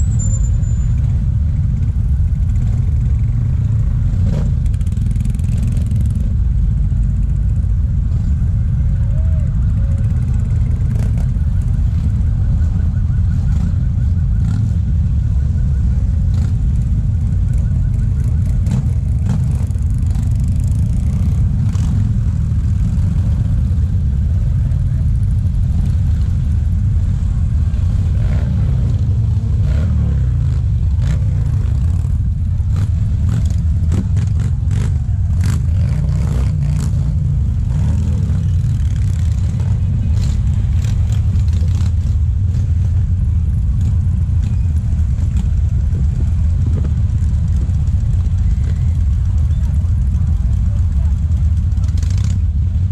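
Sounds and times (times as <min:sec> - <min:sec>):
motorcycle engines rumbling: 0:00.0 - 0:52.9.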